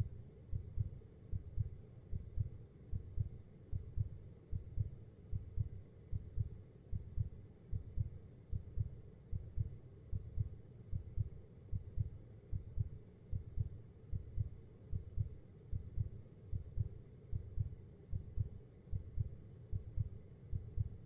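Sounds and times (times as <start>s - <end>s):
heartbeat thumps: 0.5s - 21.0s.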